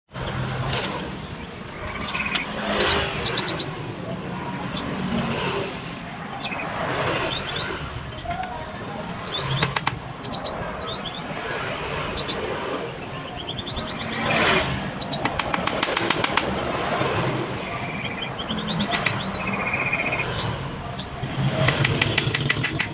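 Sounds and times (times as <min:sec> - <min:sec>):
small birds chirping: 0:00.1 - 0:22.9.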